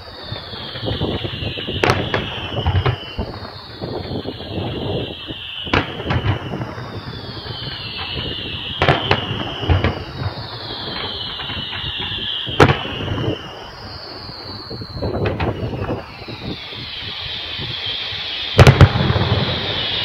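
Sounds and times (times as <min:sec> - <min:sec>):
firework whistles falling in pitch: 0:00.0 - 0:20.0
firework shells bursting: 0:00.1 - 0:20.0.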